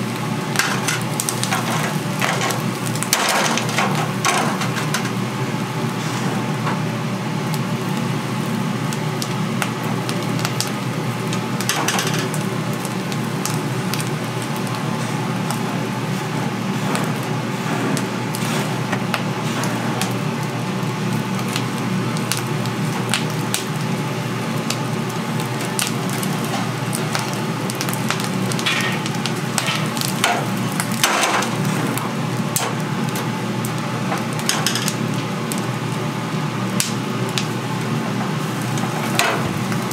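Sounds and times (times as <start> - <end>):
meat sizzling on grill: 0.0 - 39.9
steady hum: 0.0 - 39.9.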